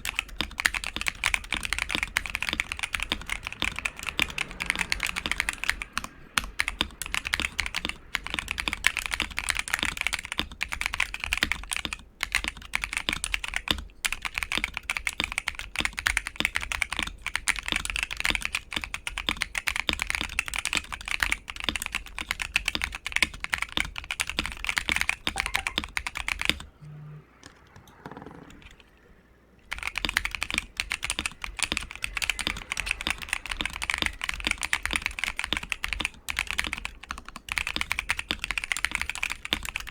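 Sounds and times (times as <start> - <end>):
mechanical keyboard typing: 0.0 - 26.7, 29.7 - 39.9.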